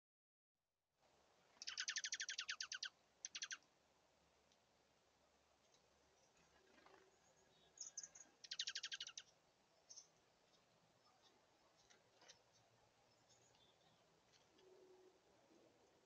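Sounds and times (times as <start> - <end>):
small songbirds chirping: 1.4 - 3.8, 5.3 - 16.0.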